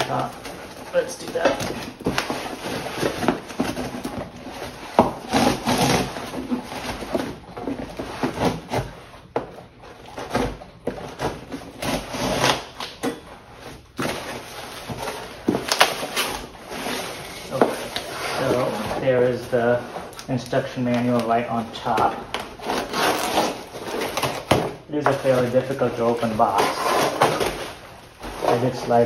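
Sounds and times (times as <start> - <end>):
cardboard scraping and rubbing: 0.0 - 29.0.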